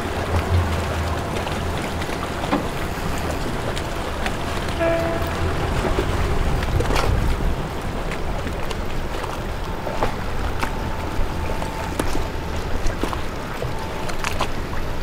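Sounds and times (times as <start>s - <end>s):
low rumble of boat traffic: 0.0s - 15.0s
wind: 0.0s - 15.0s.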